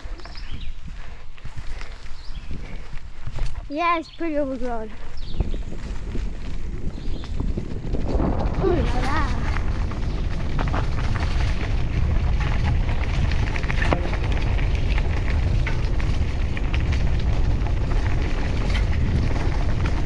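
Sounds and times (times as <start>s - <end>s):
dry leaves and brush crackling: 0.0s - 20.0s
wind rumble on microphone: 0.0s - 20.0s.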